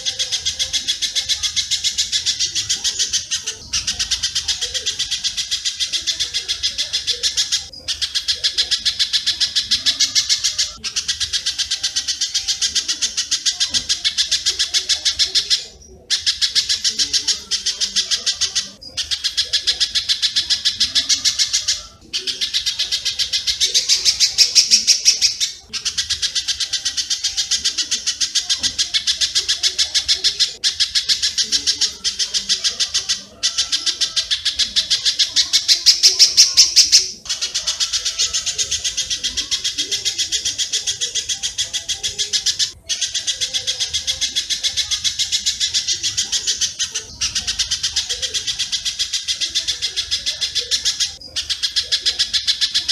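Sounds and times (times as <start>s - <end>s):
rapid bird chattering: 0.0s - 52.9s.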